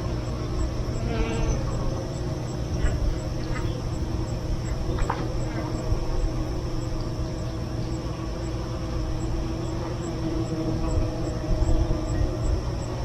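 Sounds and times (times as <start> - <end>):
honeybees humming: 0.0 - 13.0
faint high ticking: 0.1 - 13.0.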